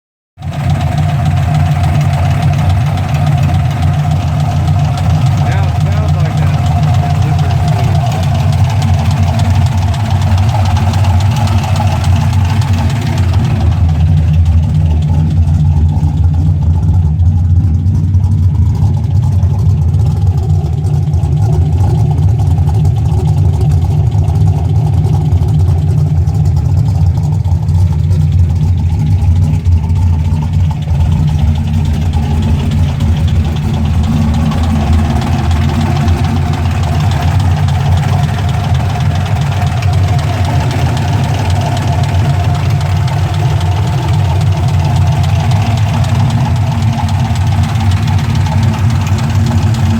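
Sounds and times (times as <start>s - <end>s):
car engine idling with lifter noise: 0.4s - 49.9s.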